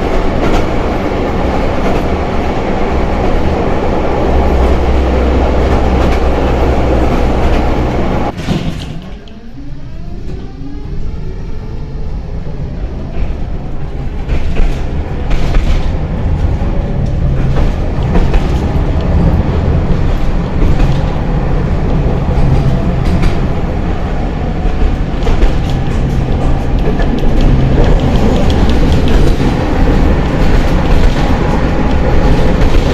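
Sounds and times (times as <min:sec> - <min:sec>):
tram rumbling on rails: 0:00.0 - 0:32.9.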